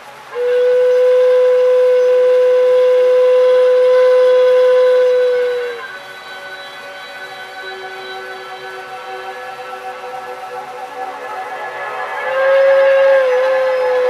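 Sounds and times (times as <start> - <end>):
loud whistle blast: 0.3 - 14.0.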